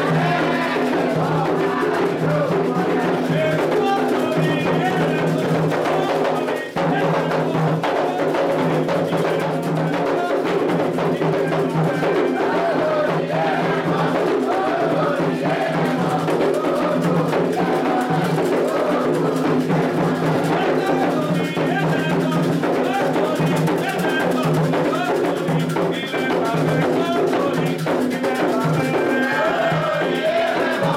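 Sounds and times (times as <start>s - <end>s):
group singing: 0.0s - 30.9s
hand drums in fast rhythm: 0.0s - 30.9s.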